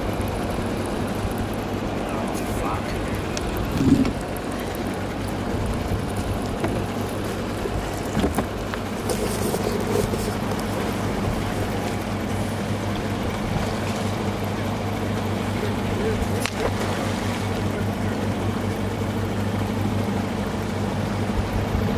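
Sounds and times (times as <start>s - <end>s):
outboard motor running: 0.0s - 21.9s
water noise: 0.0s - 21.9s
wind: 0.0s - 21.9s.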